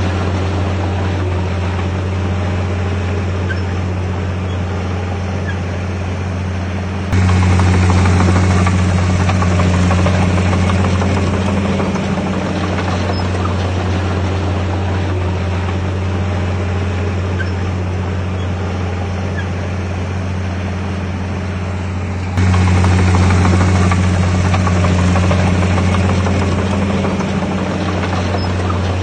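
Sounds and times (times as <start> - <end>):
diesel machinery engine hum: 0.0 - 29.0.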